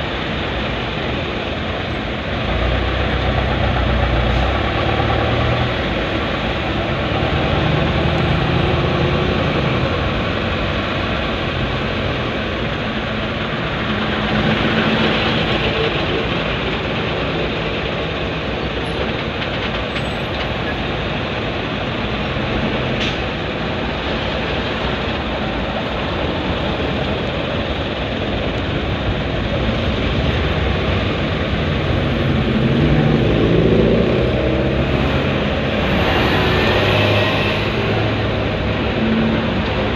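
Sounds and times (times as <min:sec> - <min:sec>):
road traffic engines: 0:00.0 - 0:39.9.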